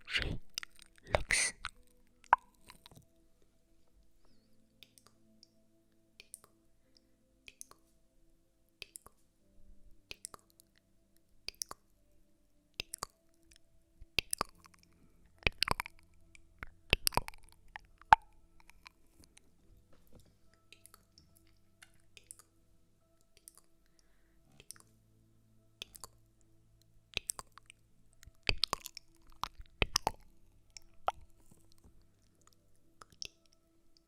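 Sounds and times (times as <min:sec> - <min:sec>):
soft clicks and crackly taps: 0:00.4 - 0:08.0, 0:08.8 - 0:09.3, 0:10.0 - 0:12.0, 0:12.7 - 0:22.6, 0:23.2 - 0:25.0, 0:25.8 - 0:34.0.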